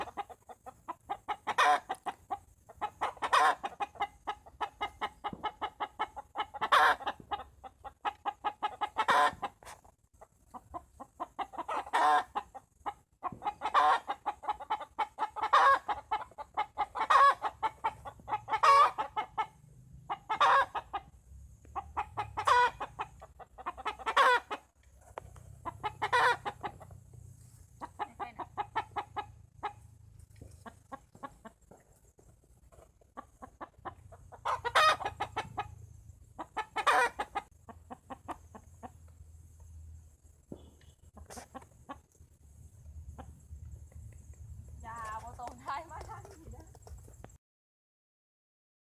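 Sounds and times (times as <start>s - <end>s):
chickens clucking: 0.0s - 47.4s.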